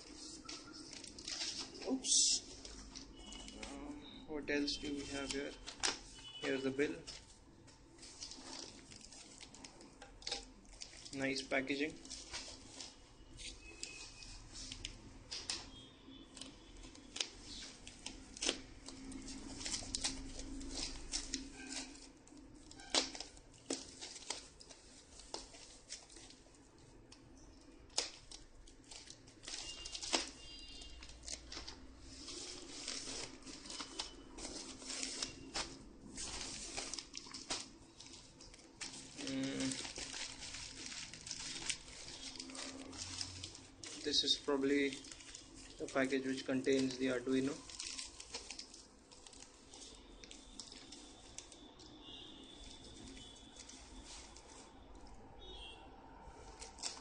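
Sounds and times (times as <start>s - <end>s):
foam wrap crinkling and tearing: 0.0s - 55.7s, 56.3s - 57.0s.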